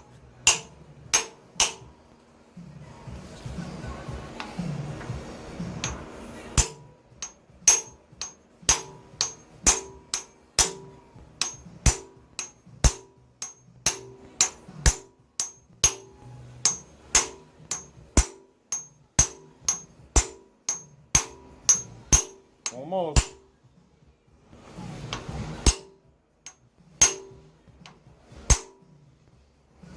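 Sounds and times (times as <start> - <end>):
hammer striking metal: 0.0 - 2.1, 4.5 - 23.6, 25.1 - 29.0.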